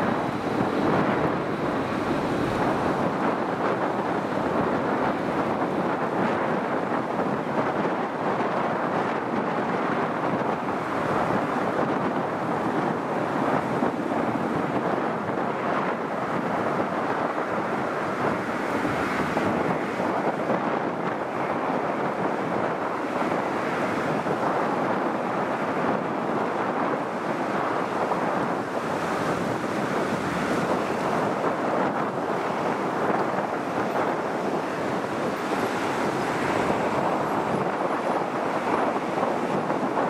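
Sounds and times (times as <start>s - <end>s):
jet engines at takeoff: 0.0s - 40.0s.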